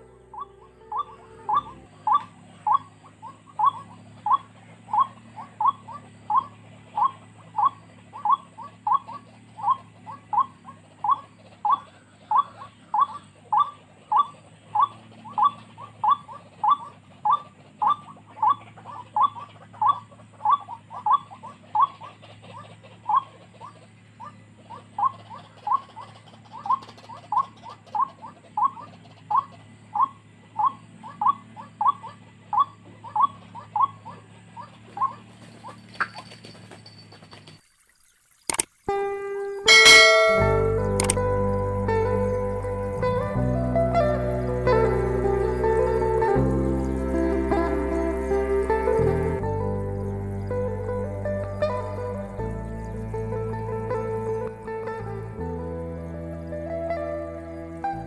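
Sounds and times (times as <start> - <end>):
waterhen calling: 0.0 - 58.0.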